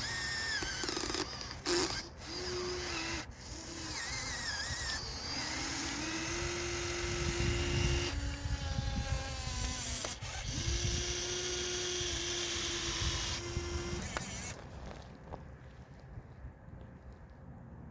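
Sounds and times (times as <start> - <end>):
toy excavator motors whirring: 0.0 - 15.1.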